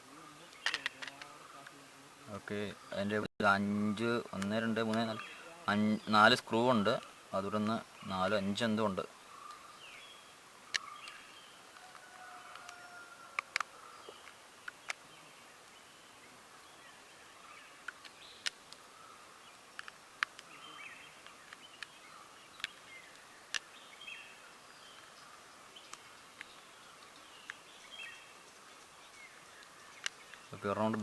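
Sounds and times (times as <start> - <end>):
birds chirping: 0.0 - 31.0
faint hiss: 0.0 - 31.0.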